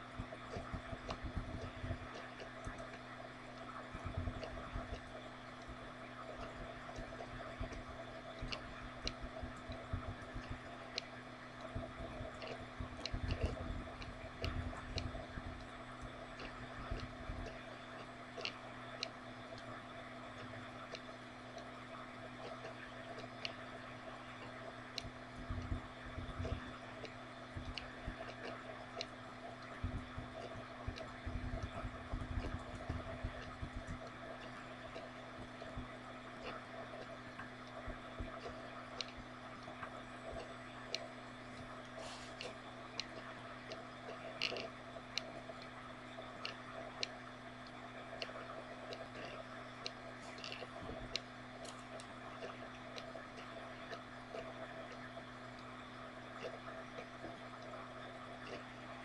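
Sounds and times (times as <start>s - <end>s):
low hum: 0.0s - 59.0s
faint clicks: 0.2s - 59.0s.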